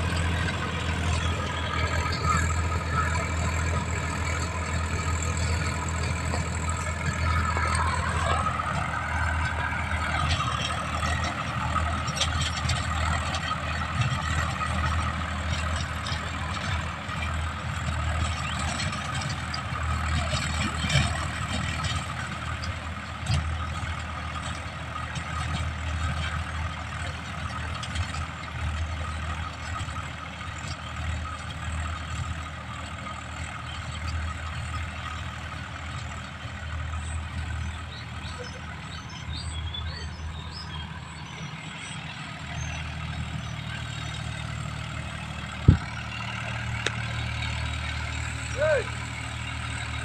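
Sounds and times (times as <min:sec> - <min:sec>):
tractor diesel engine idling: 0:00.0 - 0:50.0.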